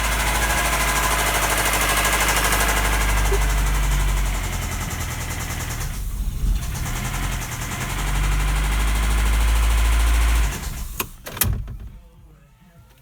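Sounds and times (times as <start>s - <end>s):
engine knocking and clattering: 0.0s - 12.0s.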